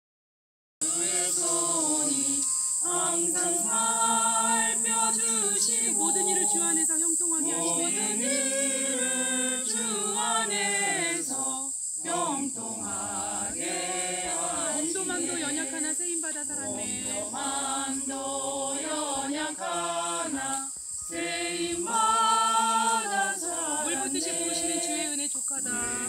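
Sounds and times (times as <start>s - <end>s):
group singing unaccompanied: 0.8s - 26.0s
high insect drone: 0.8s - 26.0s.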